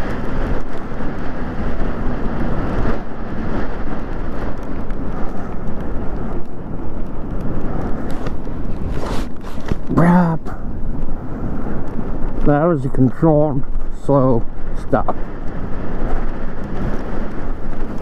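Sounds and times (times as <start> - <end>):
tyres on wet road: 0.0 - 18.0
wind rushing over microphone: 0.0 - 18.0.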